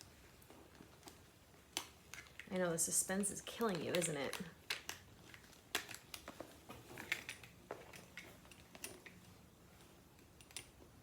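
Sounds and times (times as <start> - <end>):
soft packaging rustling: 0.0 - 11.0.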